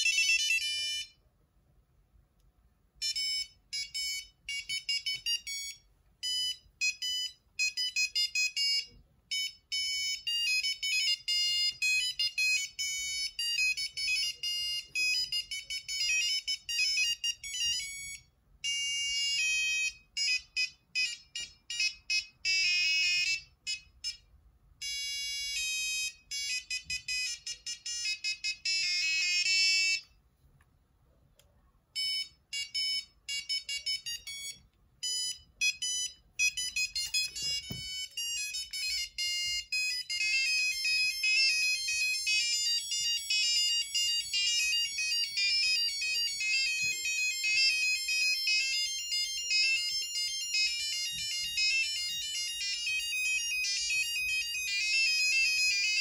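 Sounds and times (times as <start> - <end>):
phone ringtone beeping melodies: 0.0 - 1.2, 3.0 - 30.2, 32.0 - 56.0.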